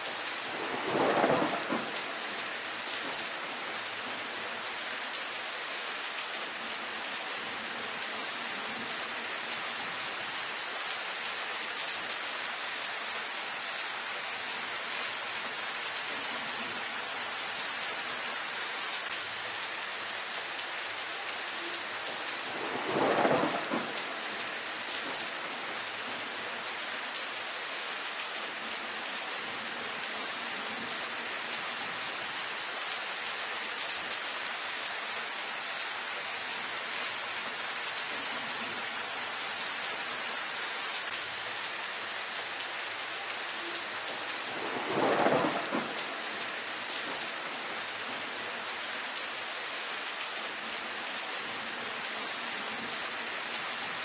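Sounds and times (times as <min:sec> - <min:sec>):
rain on foliage: 0:00.0 - 0:54.0.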